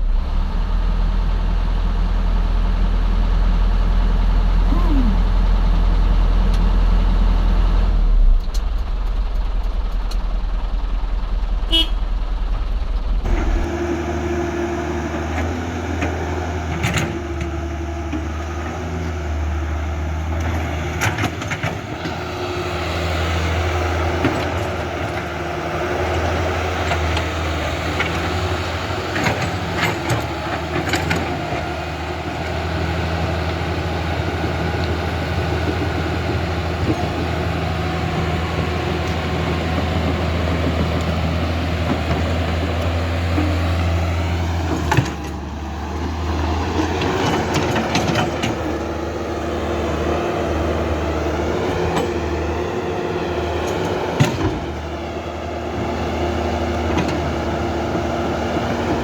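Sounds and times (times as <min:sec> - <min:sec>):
heavy machinery engine drone: 0:00.0 - 0:59.0.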